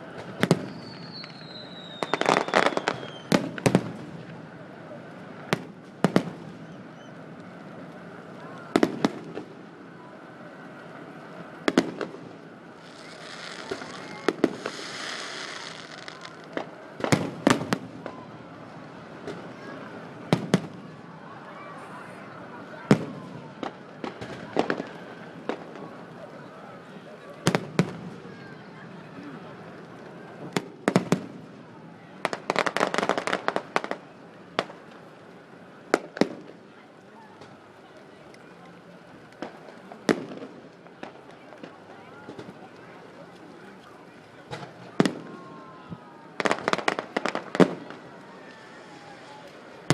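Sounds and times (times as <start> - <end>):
fireworks bangs: 0.1 - 9.8, 10.6 - 35.2, 35.8 - 37.7, 39.2 - 49.9.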